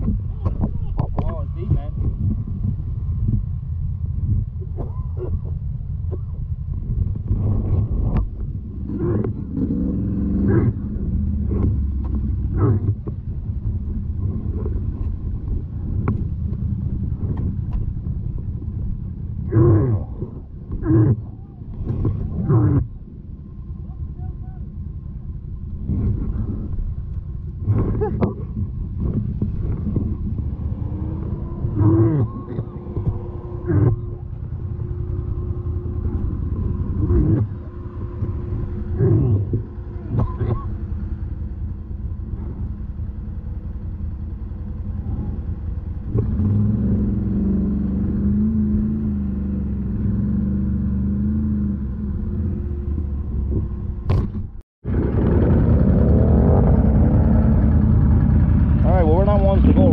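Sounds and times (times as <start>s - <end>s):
atv engine rumbling: 0.0s - 59.9s.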